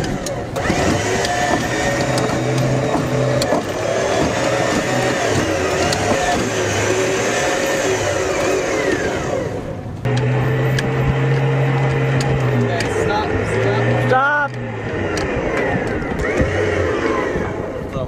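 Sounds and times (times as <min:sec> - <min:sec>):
boat engine running: 0:00.0 - 0:18.0
water noise: 0:00.0 - 0:18.0
wind noise: 0:00.0 - 0:18.0.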